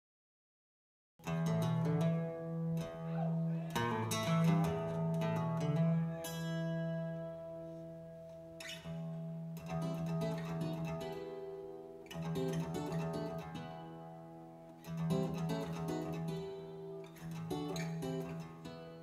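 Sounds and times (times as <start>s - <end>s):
plucked acoustic guitar music: 1.2s - 19.0s.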